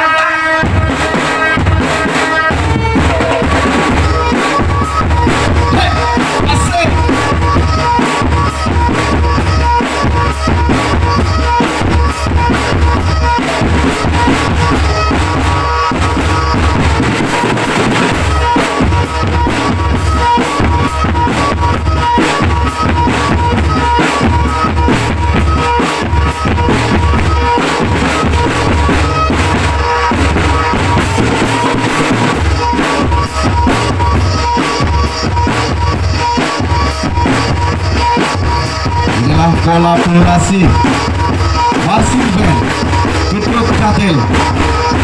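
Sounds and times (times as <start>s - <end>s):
marching drum band playing: 0.0s - 45.0s
repeated high note: 0.0s - 45.0s.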